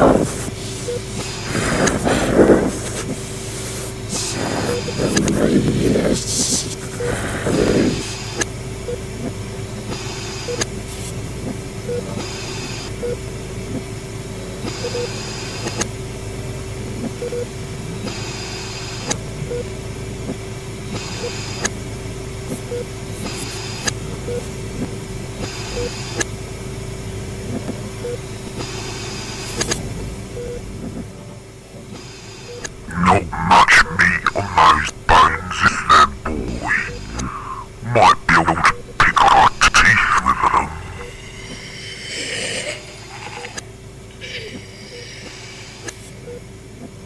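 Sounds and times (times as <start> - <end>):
low hum with held tone: 0.0 - 47.0.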